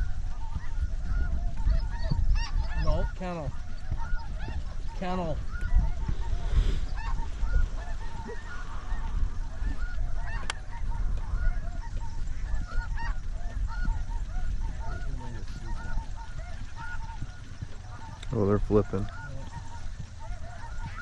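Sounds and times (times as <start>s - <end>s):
geese honking: 0.0s - 21.0s
steady low rumble: 0.0s - 21.0s.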